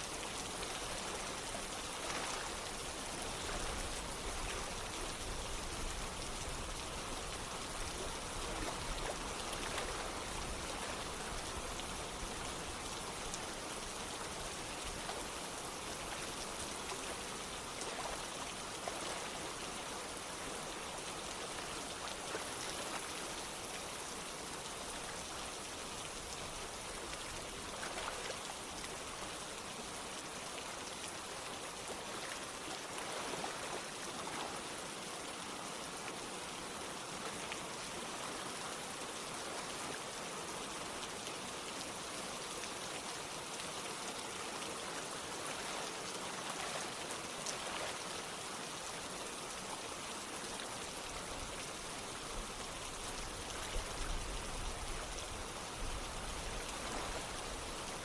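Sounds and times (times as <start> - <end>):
running water: 0.0 - 58.0
steady rain: 0.0 - 58.0.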